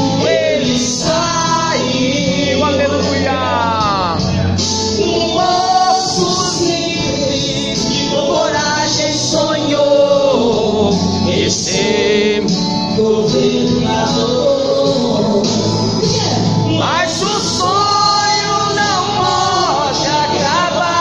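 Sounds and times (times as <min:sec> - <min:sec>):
woman singing gospel song: 0:00.0 - 0:04.2, 0:05.0 - 0:21.0
instrumental backing music: 0:00.0 - 0:21.0.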